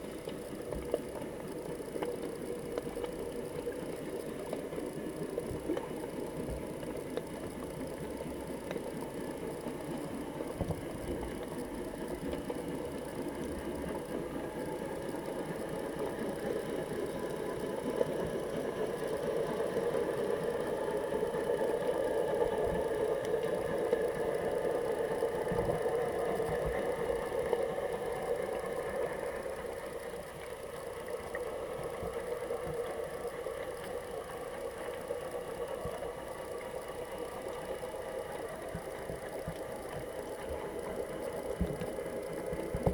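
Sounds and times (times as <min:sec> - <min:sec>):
muffled underwater hum: 0:00.0 - 0:42.9.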